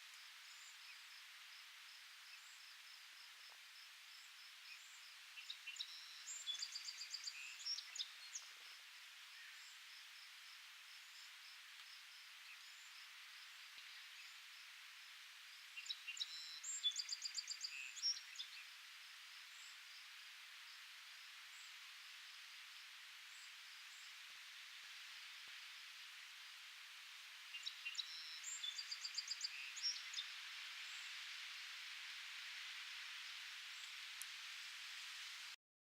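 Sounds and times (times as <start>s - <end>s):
faint insect chirping: 0.0s - 35.6s
steady high hiss: 0.0s - 35.6s.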